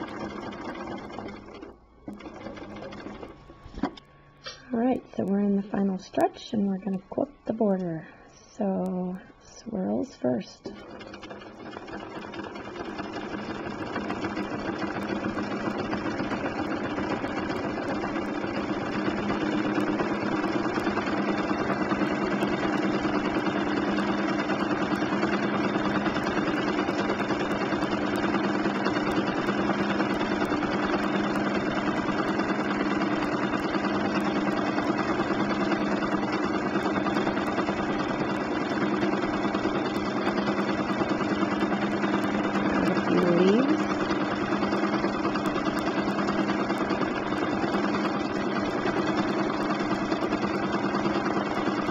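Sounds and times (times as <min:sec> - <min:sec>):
sewing machine running fast: 0:00.0 - 0:03.8, 0:10.6 - 0:51.9.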